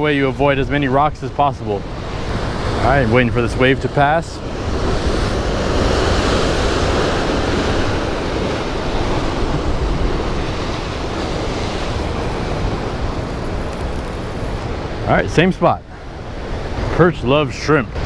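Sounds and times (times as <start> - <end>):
ocean surf breaking on rocks: 0.0 - 18.0.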